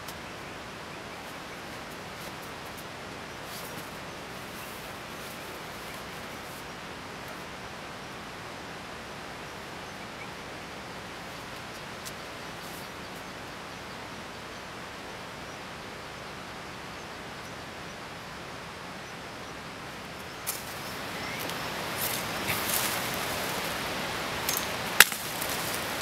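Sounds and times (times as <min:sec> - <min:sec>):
heavy rain on foliage: 0:00.0 - 0:26.0.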